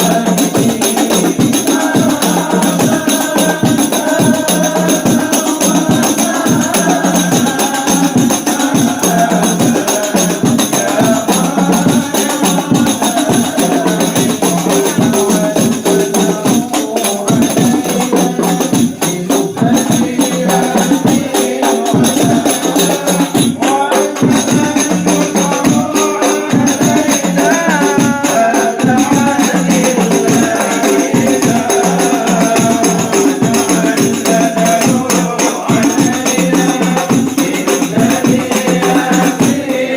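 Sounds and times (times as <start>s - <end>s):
frame drums beating: 0.0s - 39.9s
voices chanting together: 0.0s - 39.9s.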